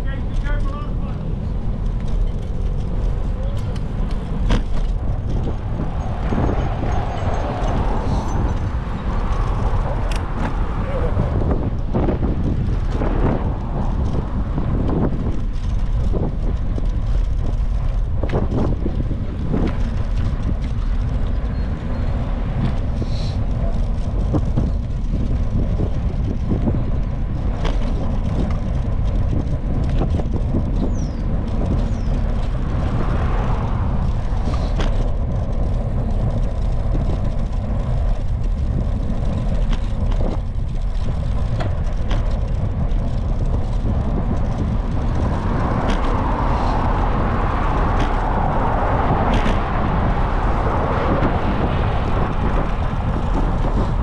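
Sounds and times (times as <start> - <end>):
road traffic noise: 0.0 - 54.0
wind buffeting microphone: 0.0 - 54.0.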